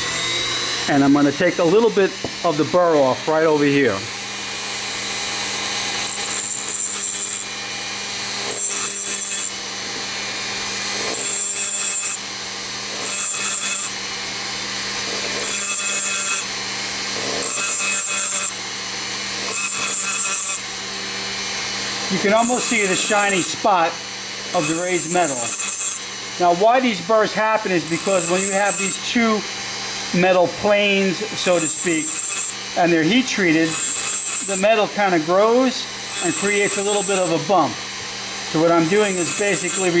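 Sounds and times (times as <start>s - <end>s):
hissing grind on metal: 0.0s - 12.2s, 15.0s - 18.6s, 19.3s - 40.0s
rotary tool motor hum: 0.0s - 40.0s.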